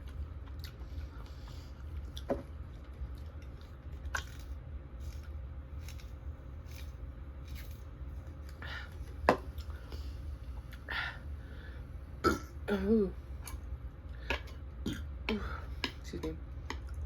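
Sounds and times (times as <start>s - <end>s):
soft wet chewing: 0.0s - 10.9s, 13.2s - 17.0s.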